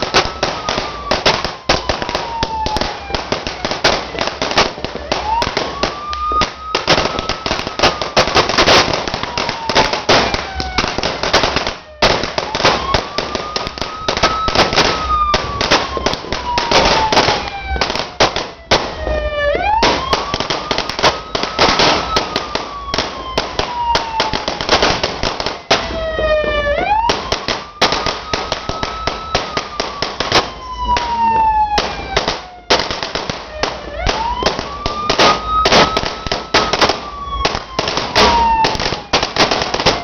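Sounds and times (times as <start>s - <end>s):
firecrackers crackling and banging: 0.0s - 40.0s
siren wailing: 0.0s - 40.0s.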